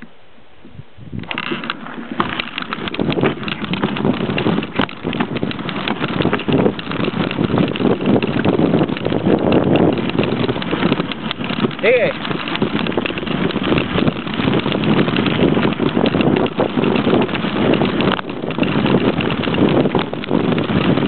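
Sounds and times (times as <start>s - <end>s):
wind buffeting microphone: 0.0s - 21.0s
bike tyres on stones and gravel: 1.0s - 21.0s
bike rattling and knocking: 1.2s - 21.0s.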